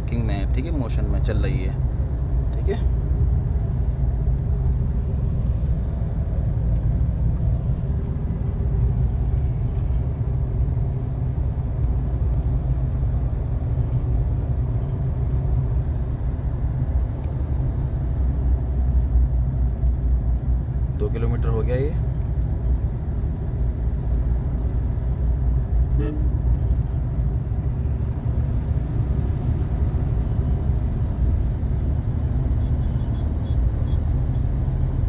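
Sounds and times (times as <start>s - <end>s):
engine and road noise in cabin: 0.0s - 35.0s.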